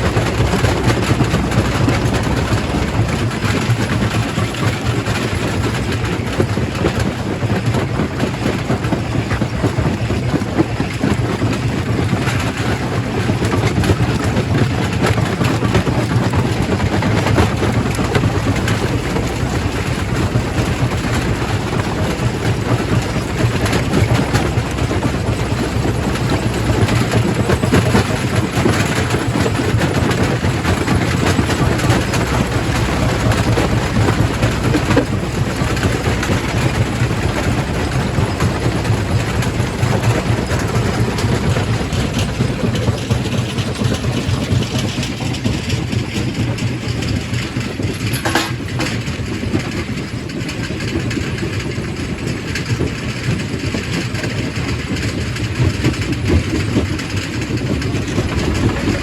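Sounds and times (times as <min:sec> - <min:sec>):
rock crusher machine hum: 0:00.0 - 0:50.5, 0:54.4 - 0:59.0.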